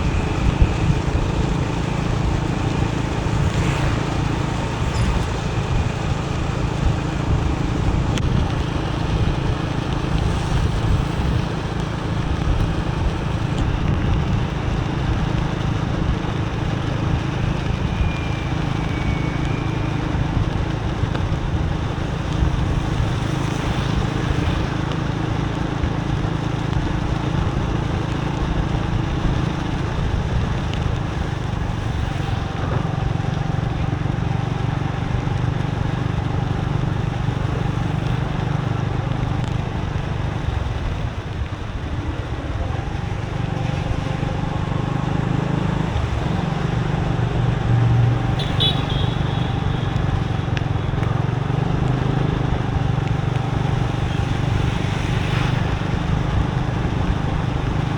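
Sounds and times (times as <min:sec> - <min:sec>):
rain and tyres on wet road: 0:00.0 - 0:57.9.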